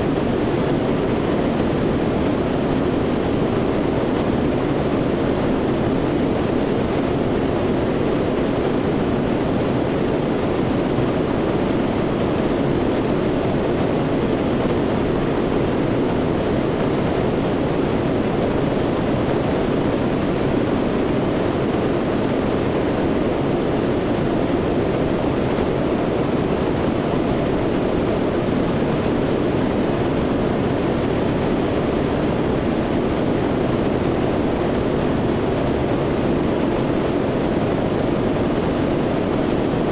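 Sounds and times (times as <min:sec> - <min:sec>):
turboprop engines and airflow: 0:00.0 - 0:39.9.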